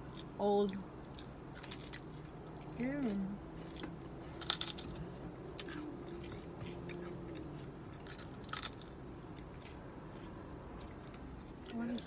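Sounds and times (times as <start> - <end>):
crunchy chewing of ice cream cones: 0.0 - 12.0.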